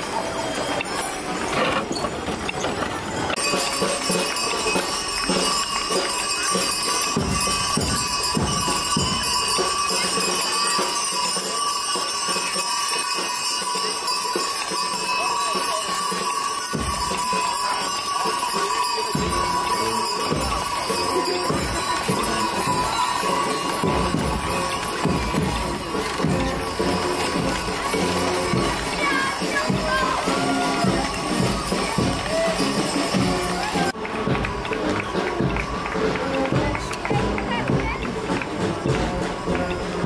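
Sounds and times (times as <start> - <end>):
music with jingling bells: 0.0 - 40.0
horse hooves clopping on road: 0.6 - 40.0.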